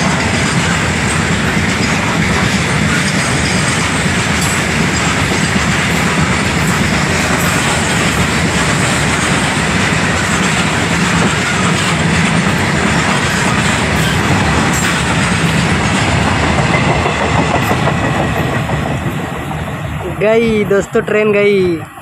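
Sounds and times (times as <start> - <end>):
freight train wagons rumbling past: 0.0 - 22.0.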